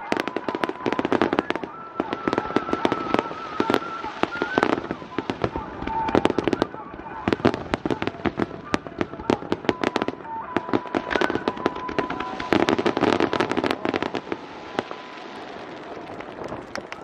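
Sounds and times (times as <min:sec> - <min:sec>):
fireworks cracking and popping: 0:00.0 - 0:17.0.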